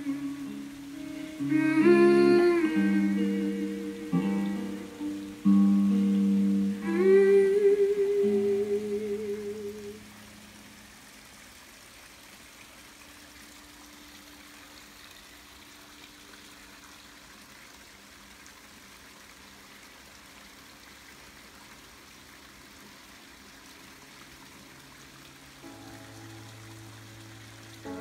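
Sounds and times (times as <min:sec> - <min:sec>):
small waterfall trickling over rocks: 0:00.0 - 0:28.0.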